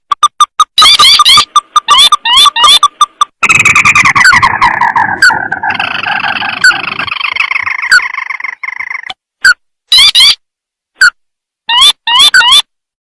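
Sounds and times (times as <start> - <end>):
crake chirps and trill: 0.0 - 10.4, 11.0 - 12.7.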